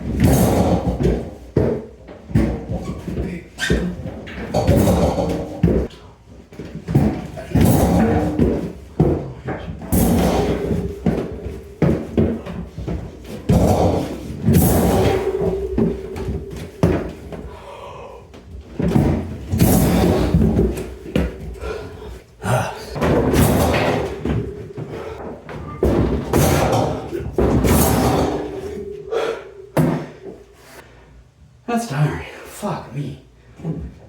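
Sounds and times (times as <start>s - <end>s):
refrigerator thumping on stairs: 0.0s - 30.5s.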